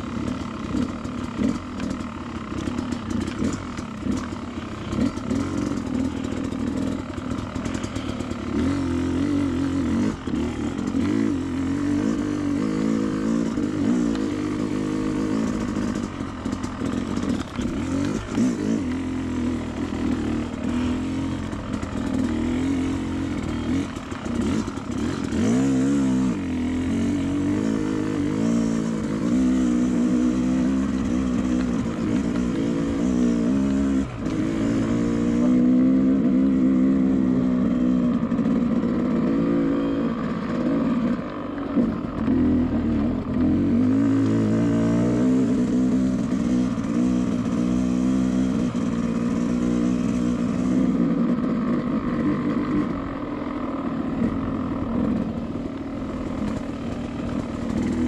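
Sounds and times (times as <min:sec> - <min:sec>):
dirt bike engine revving: 0:00.0 - 0:53.2, 0:53.8 - 0:58.0.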